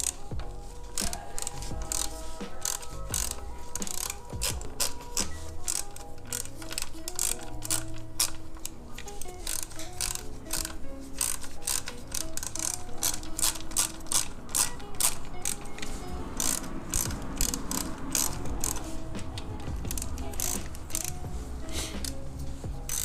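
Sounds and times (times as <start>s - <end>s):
background music: 0.0s - 23.0s
socket ratchet clicking: 0.0s - 23.0s.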